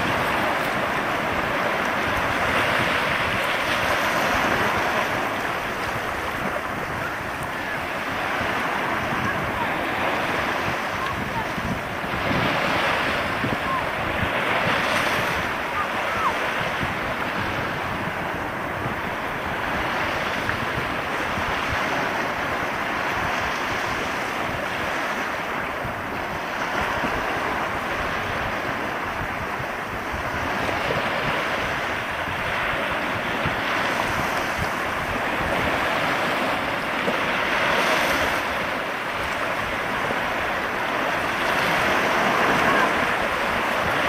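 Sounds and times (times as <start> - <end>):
waves washing over rocks: 0.0 - 44.0.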